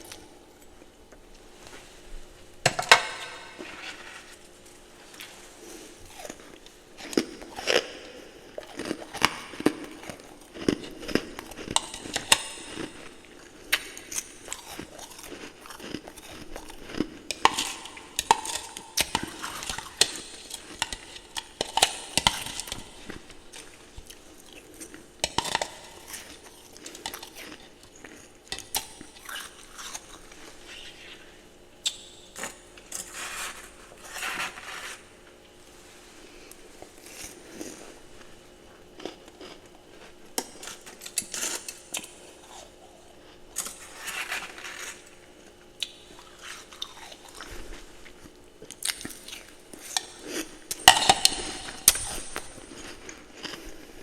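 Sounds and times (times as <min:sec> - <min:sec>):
person chewing ice: 0:02.7 - 0:04.4, 0:05.1 - 0:35.0, 0:36.5 - 0:38.0, 0:38.7 - 0:54.0.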